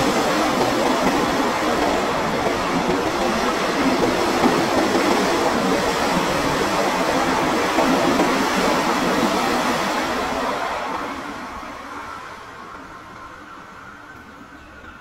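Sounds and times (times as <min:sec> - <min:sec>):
steel train wheels on rails: 0:00.0 - 0:14.9.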